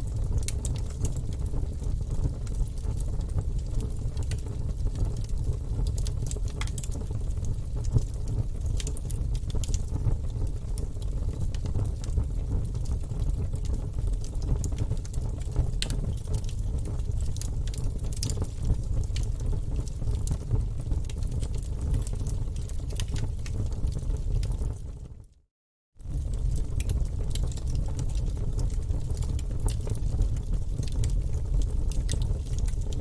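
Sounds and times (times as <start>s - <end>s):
low rumble of flames: 0.0s - 25.4s, 26.0s - 33.0s
logs crackling and popping: 4.2s - 24.6s, 26.0s - 33.0s.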